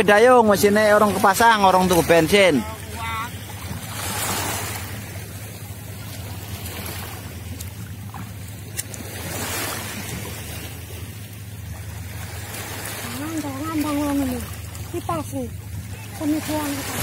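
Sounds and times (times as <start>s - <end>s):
small sea waves washing onto beach: 0.0s - 17.0s.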